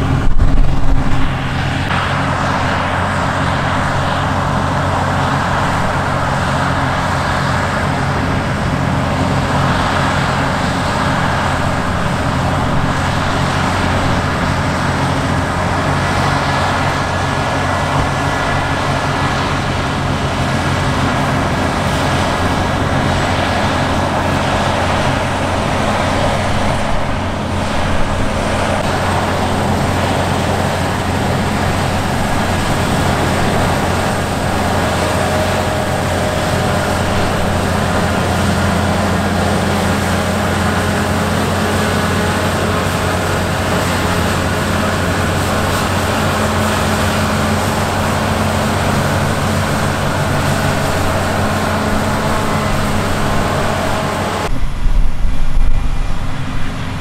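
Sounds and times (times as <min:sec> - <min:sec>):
combine harvester engine drone: 0:00.0 - 0:57.0
rushing of threshing machinery: 0:00.0 - 0:57.0.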